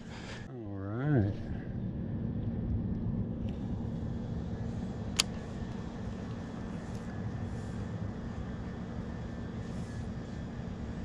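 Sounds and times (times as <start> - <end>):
wind rumble on microphone: 1.2 - 11.0.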